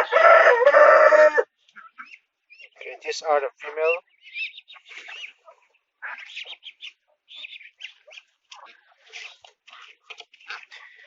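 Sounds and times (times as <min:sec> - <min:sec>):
hens clucking and chirping: 0:00.0 - 0:11.0.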